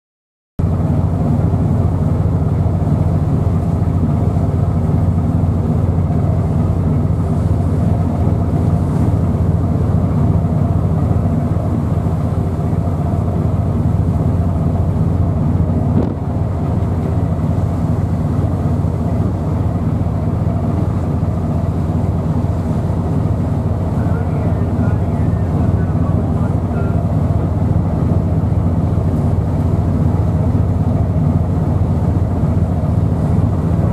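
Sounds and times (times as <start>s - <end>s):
strong wind buffeting microphone: 4.9s - 33.9s.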